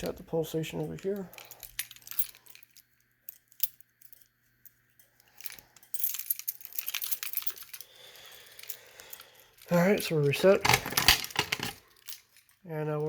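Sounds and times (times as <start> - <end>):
keys jingling: 0.0 - 13.0.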